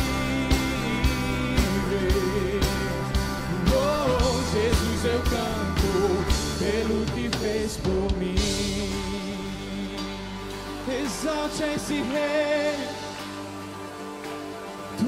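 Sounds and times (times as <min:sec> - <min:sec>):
man singing: 0:00.0 - 0:13.2
electric guitar: 0:00.0 - 0:15.0
worship band playing: 0:00.0 - 0:15.0.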